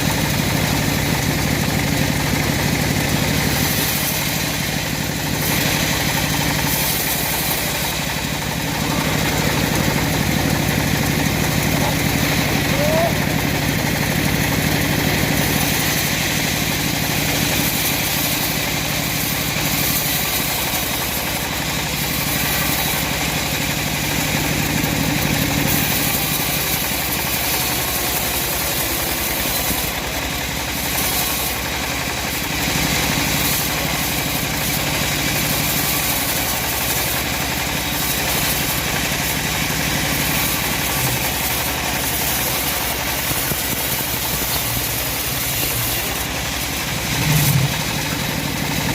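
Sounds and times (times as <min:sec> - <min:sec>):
chainsaw cutting timber: 0:00.0 - 0:48.9.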